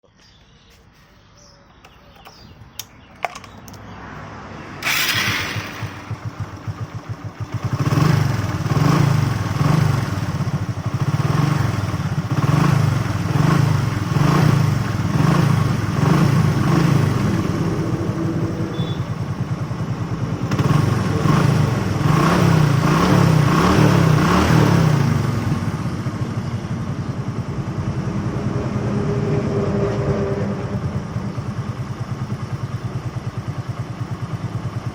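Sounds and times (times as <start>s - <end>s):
motorcycle engine starting and revving: 1.7s - 34.9s.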